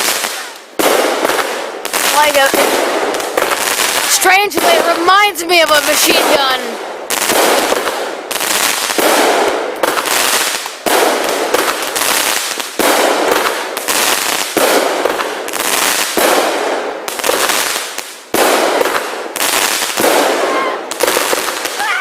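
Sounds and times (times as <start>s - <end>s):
firework shots banging: 0.0s - 21.9s.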